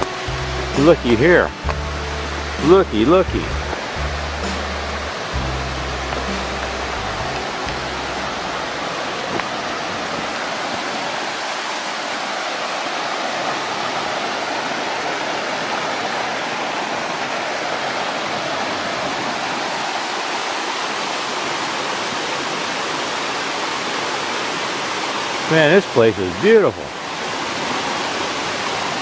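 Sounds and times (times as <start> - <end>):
waterfall rushing: 3.8 - 29.0.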